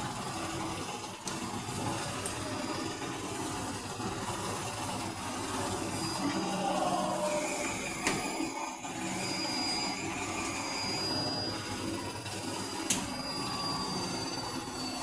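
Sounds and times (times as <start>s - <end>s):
thin high whine: 0.0s - 15.0s
washing machine hum: 0.0s - 15.0s.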